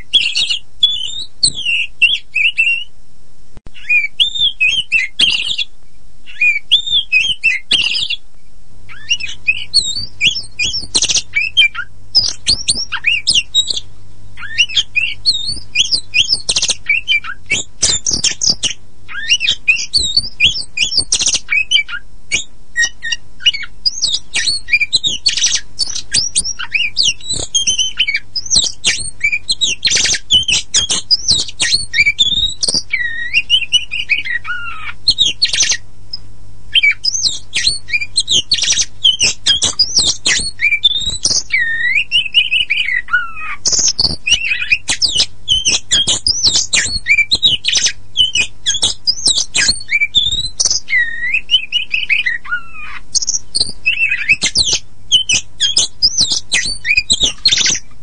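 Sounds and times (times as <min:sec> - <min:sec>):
bird singing with clear whistles: 0:00.0 - 0:02.9, 0:03.7 - 0:08.2, 0:08.9 - 0:58.0
harsh chattering bird notes: 0:00.0 - 0:02.9, 0:03.7 - 0:05.7, 0:06.3 - 0:08.2, 0:08.9 - 0:35.8, 0:36.7 - 0:58.0.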